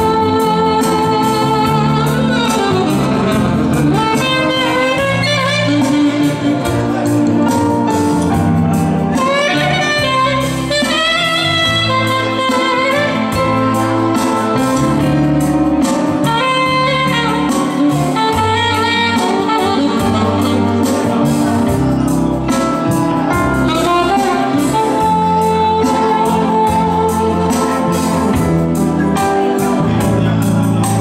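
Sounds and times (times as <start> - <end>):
bass line and beat: 0.0 - 31.0
saxophone melody: 0.0 - 31.0.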